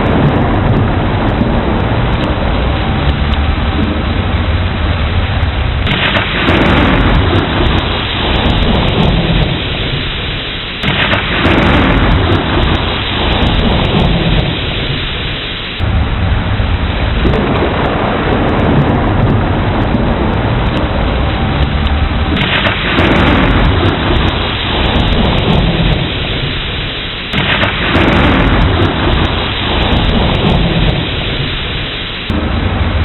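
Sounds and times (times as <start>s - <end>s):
heavy rain: 0.0s - 33.0s
rolling thunder: 0.0s - 33.0s.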